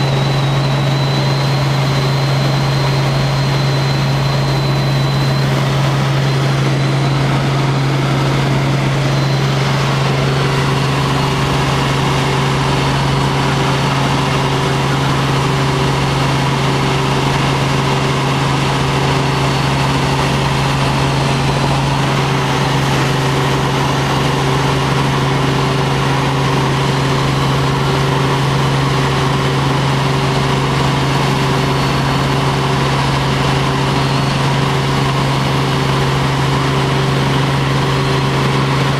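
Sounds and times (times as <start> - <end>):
helicopter engine and rotors hum: 0.0 - 38.9.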